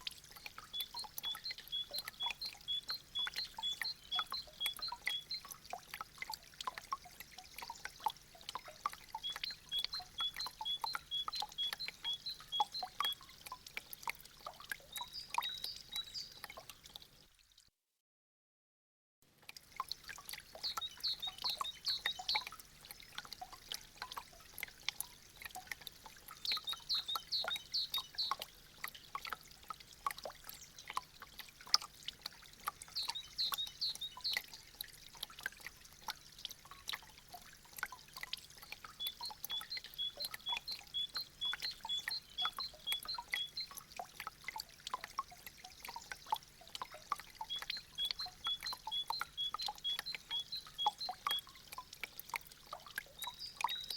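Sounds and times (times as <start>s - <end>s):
meltwater dripping: 0.0s - 17.6s, 19.3s - 53.9s.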